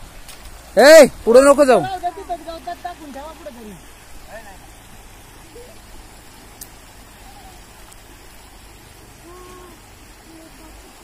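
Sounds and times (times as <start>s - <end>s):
river water rushing over stones: 0.0s - 11.0s
faint distant calls: 1.8s - 11.0s.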